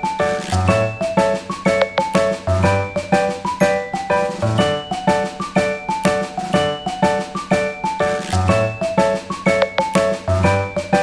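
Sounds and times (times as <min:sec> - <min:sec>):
lively instrumental tune: 0:00.0 - 0:11.0.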